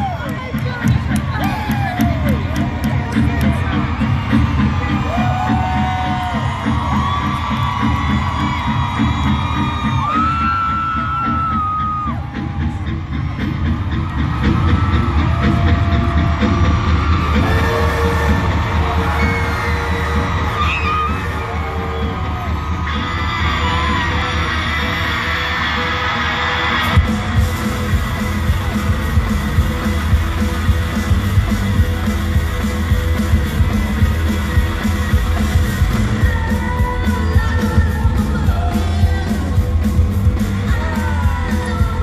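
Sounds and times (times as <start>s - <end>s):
crowd yelling and cheering: 0.0s - 42.0s
live rock band: 0.0s - 42.0s.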